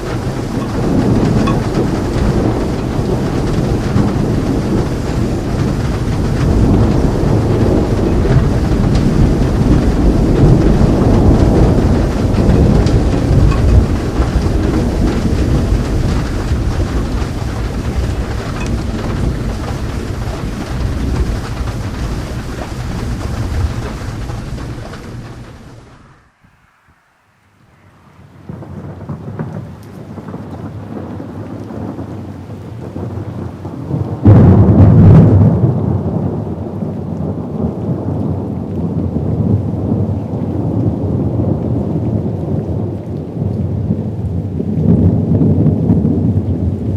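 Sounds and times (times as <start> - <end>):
rolling thunder: 0.0 - 46.9
steady rain: 0.0 - 46.9.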